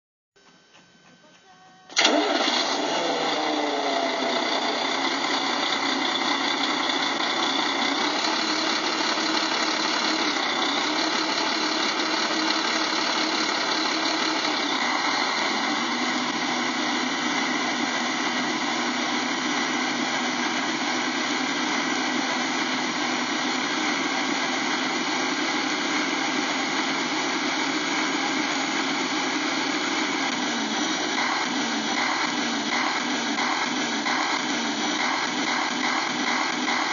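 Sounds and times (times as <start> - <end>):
engine idling: 1.9 - 36.9.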